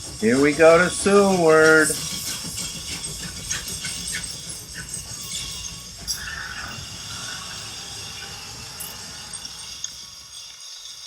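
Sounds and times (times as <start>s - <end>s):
train rolling on rails: 0.0s - 11.0s
wheel clicks and squeaks: 0.0s - 11.0s.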